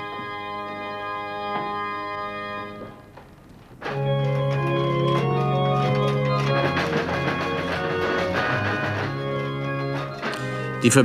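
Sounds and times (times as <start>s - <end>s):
pipe organ chords: 0.0s - 3.1s, 3.8s - 11.0s.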